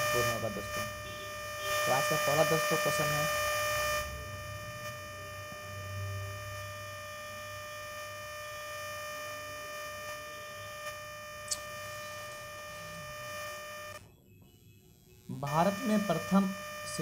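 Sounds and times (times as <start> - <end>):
electrical hum-whine: 0.0 - 17.0.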